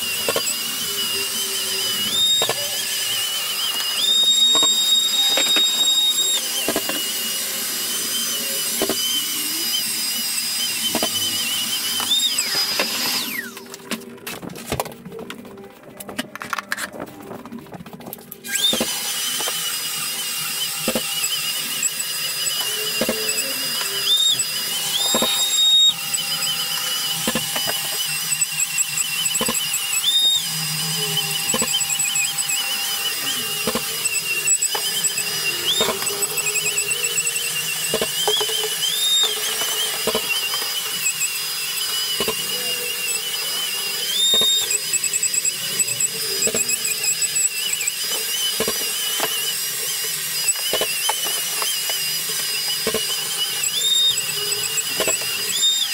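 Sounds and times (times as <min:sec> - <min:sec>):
drywall sander whining: 0:00.0 - 0:55.9.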